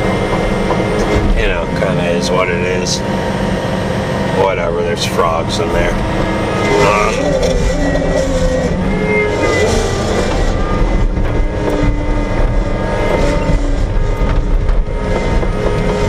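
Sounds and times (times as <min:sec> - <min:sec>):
thin whining tones: 0:00.0 - 0:16.0
tractor engine running: 0:00.0 - 0:16.0.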